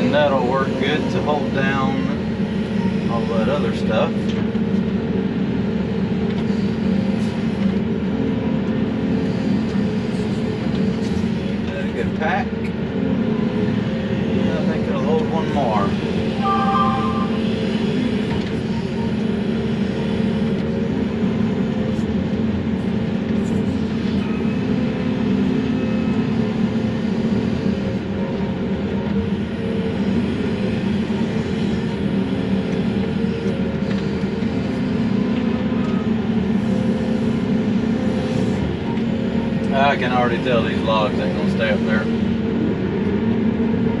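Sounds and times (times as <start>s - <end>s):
excavator engine and hydraulics: 0.0s - 44.0s.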